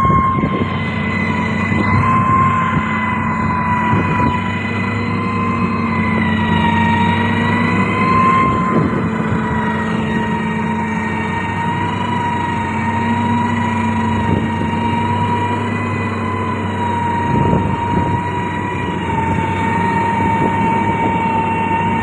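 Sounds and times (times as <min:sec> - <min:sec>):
diesel engine running: 0:00.0 - 0:22.0
high-pitched whine: 0:00.0 - 0:22.0.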